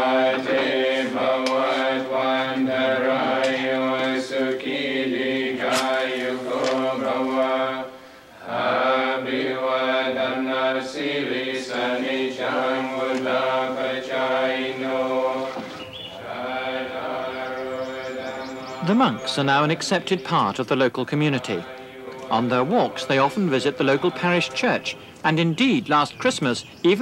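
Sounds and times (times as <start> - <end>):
monks chanting: 0.0 - 25.5.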